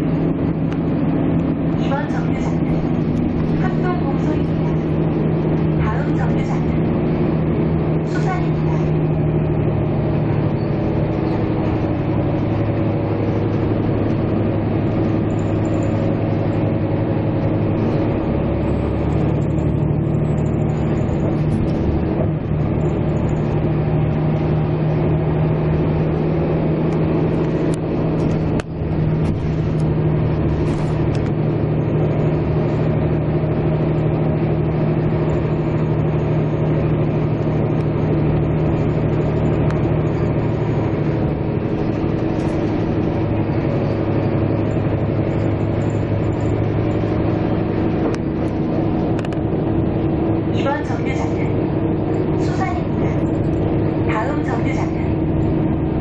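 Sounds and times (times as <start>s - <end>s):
road noise: 0.0s - 56.0s
vehicle engine droning: 0.0s - 56.0s.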